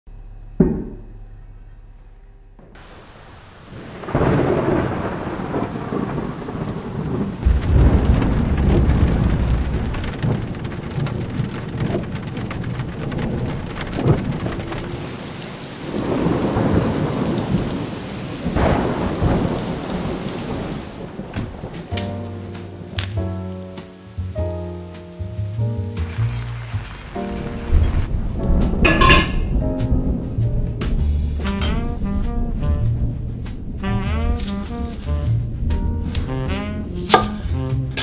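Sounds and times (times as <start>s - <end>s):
rain falling: 2.8s - 38.0s
thunder rolling: 2.8s - 38.0s.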